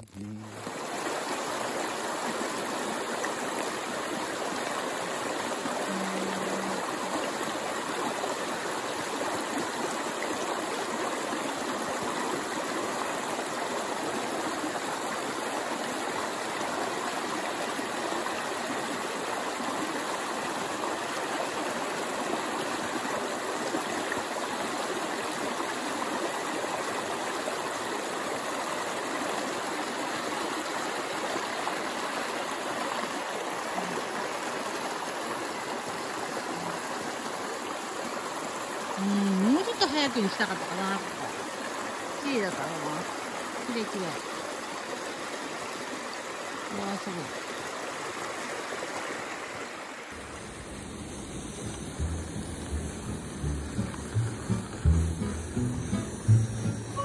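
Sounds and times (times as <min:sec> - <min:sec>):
stream water rushing and babbling: 0:00.0 - 0:57.0.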